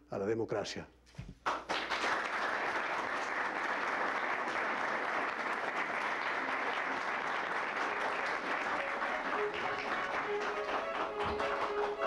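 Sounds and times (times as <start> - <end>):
people applauding: 1.4 - 12.0.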